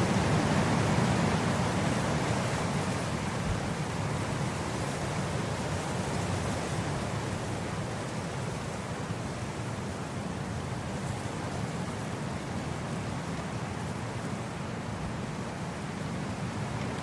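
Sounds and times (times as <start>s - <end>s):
wind blowing across grass: 0.0s - 17.0s.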